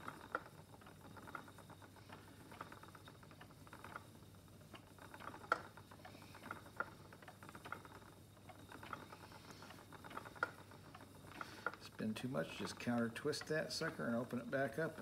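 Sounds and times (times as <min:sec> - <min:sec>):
spinning wheel clicking: 0:00.0 - 0:15.0.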